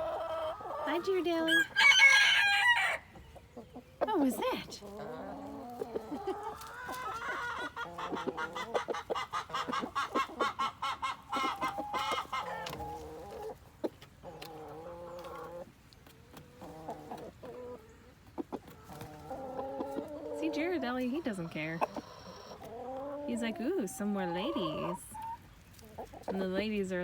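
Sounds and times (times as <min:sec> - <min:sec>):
chickens clucking and squawking: 0:00.0 - 0:27.0.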